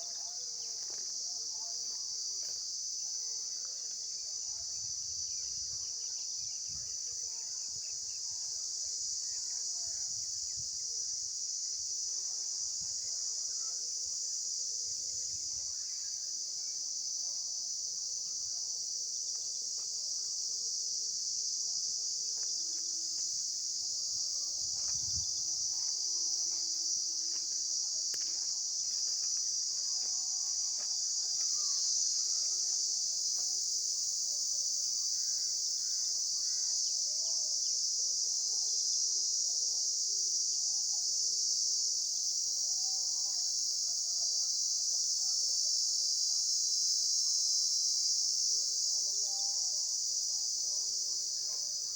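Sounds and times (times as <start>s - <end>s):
insect chorus drone: 0.0s - 51.9s.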